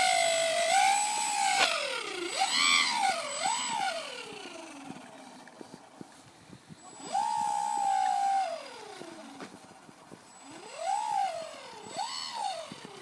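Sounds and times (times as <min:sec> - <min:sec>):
model plane motor whining: 0:00.0 - 0:05.9, 0:06.8 - 0:13.0.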